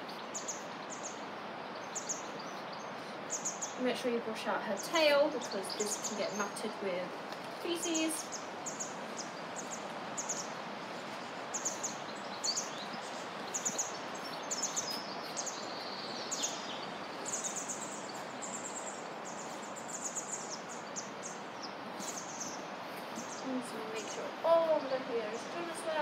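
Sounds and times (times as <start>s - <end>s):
outdoor ambience hiss: 0.0s - 26.0s
small birds chirping: 0.0s - 26.0s.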